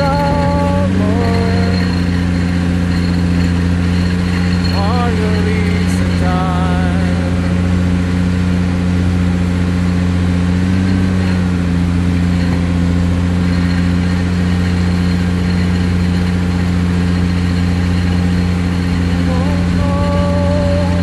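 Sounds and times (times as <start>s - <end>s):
diesel engine drone: 0.0s - 21.0s
vibratory pile hammer: 0.0s - 21.0s.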